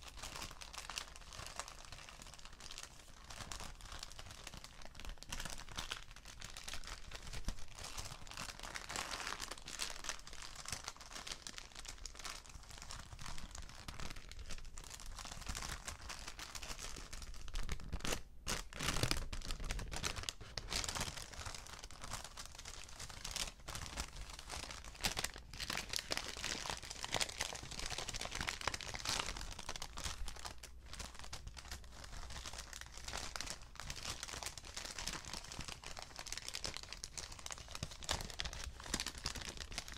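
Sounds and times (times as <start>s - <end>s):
paper bags crinkling: 0.0s - 39.9s.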